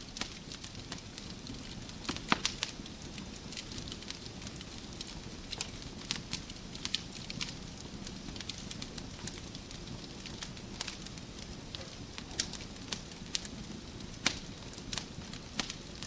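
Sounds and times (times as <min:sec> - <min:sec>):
burning logs popping: 0:00.0 - 0:16.0
wood fire crackling: 0:00.0 - 0:16.0.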